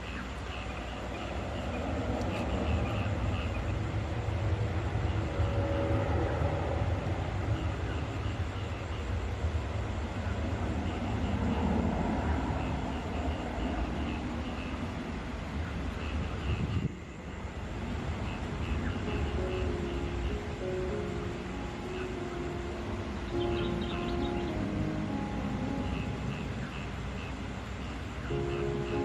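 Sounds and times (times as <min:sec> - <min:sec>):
frogs chirping: 0:00.0 - 0:29.0
steady rain hiss: 0:00.0 - 0:29.0.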